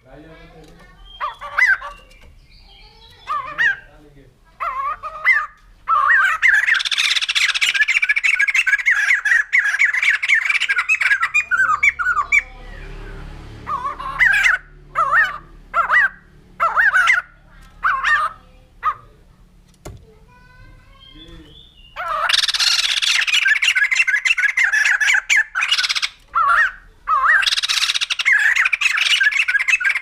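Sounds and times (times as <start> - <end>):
bird calling loudly: 0.0 - 19.6, 20.4 - 30.0.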